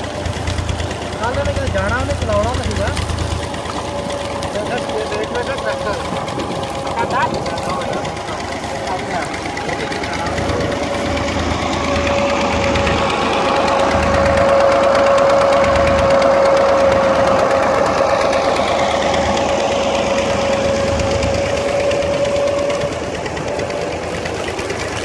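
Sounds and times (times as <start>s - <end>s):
steady whine: 0.0s - 25.0s
tractor engine running under load: 0.0s - 25.0s.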